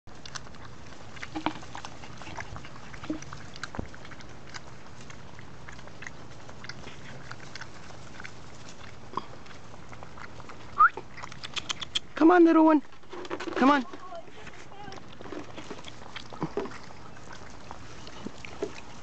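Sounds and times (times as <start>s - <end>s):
puppy lapping from metal bowl: 0.1s - 19.0s.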